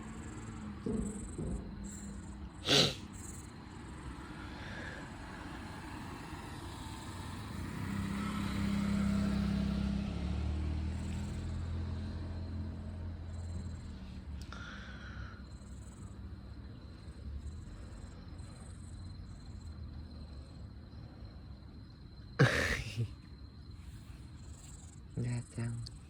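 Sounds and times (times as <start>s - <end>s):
low engine hum: 0.0s - 21.2s.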